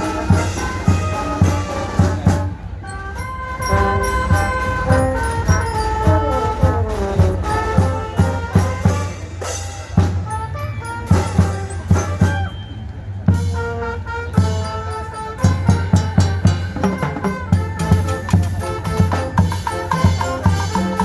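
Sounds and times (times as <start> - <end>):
drum beats: 0.0 - 21.0
horn melody: 0.0 - 21.0.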